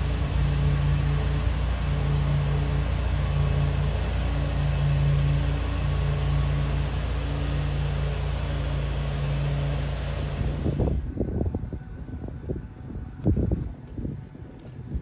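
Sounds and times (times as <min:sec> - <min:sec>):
locomotive hum: 0:00.0 - 0:15.0
train running rumble: 0:00.0 - 0:15.0.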